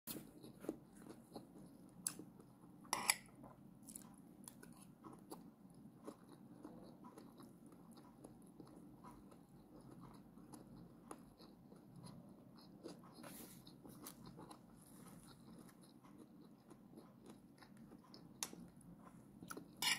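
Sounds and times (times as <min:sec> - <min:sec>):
faint close-up chewing: 0:00.1 - 0:19.9.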